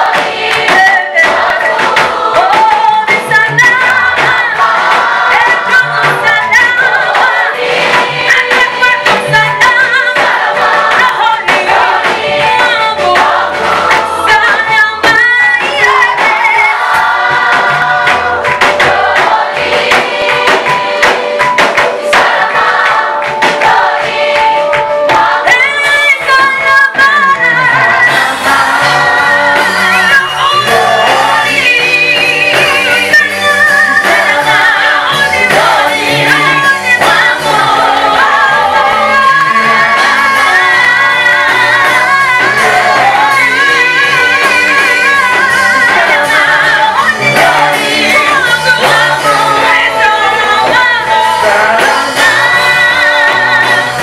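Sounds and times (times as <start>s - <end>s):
choir singing gospel song: 0.0s - 54.0s
percussion: 0.0s - 54.0s.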